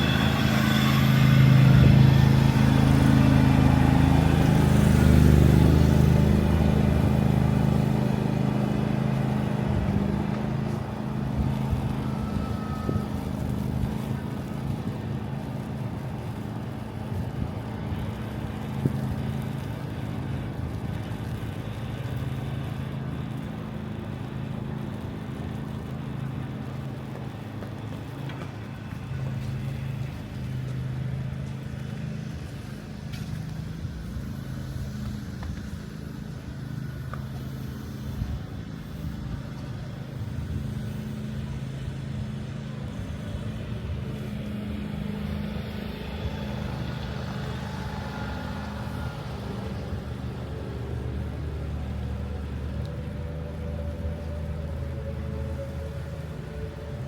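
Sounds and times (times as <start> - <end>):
low traffic hum: 0.0 - 57.0
vehicle engine running close: 0.0 - 57.0.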